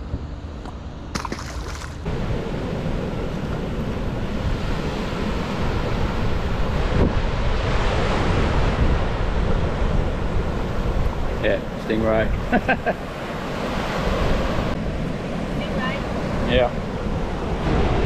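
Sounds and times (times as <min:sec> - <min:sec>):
water noise: 0:00.6 - 0:18.0
wind on microphone: 0:02.1 - 0:18.0.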